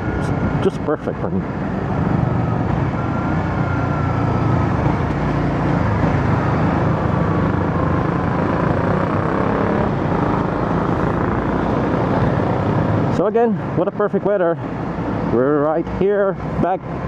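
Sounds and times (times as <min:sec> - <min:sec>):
motorcycle engine hum: 0:00.0 - 0:17.0
road noise: 0:00.0 - 0:17.0.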